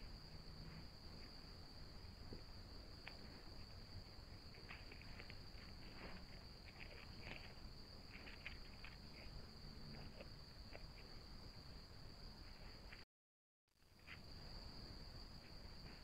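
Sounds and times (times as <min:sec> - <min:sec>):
insect trill: 0:00.0 - 0:13.0, 0:13.8 - 0:16.0.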